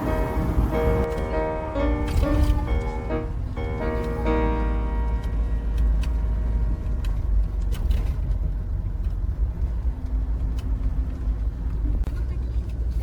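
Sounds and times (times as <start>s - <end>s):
road vehicle rumbling: 0.0s - 13.0s.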